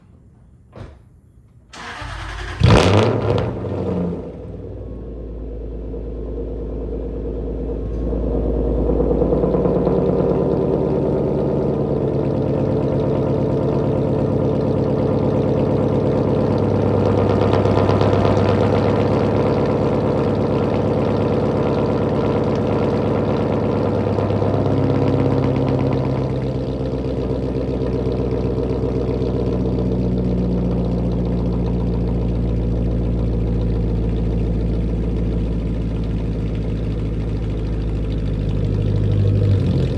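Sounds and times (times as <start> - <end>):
car engine idling: 1.8 - 39.9.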